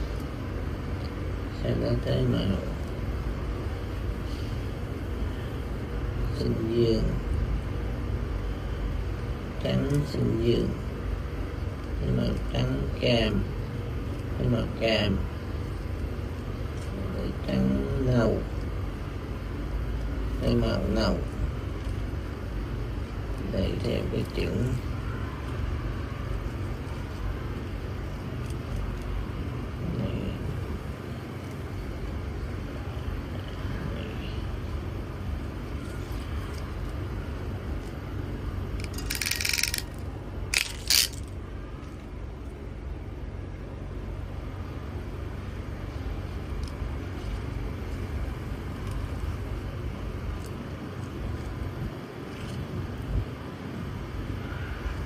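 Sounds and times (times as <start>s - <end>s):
low background rumble: 0.0s - 55.0s.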